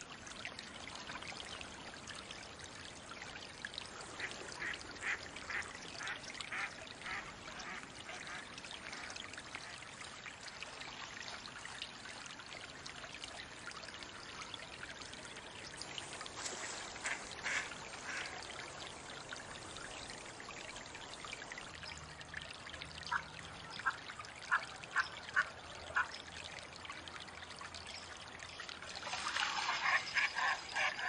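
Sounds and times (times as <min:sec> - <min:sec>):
running water trickling: 0:00.0 - 0:31.0
water splashing: 0:00.0 - 0:31.0.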